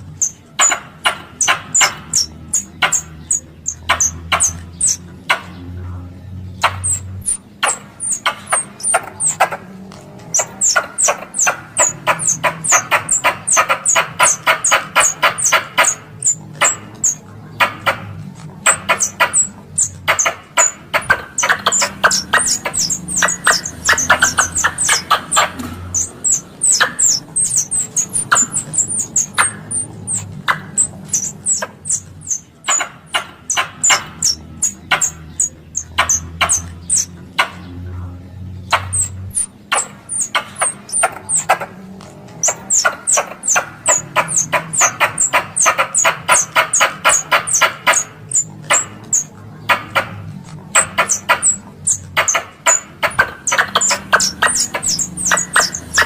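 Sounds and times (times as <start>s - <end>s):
squirrel call chirps: 0.0s - 5.7s, 6.4s - 37.8s, 38.6s - 56.0s.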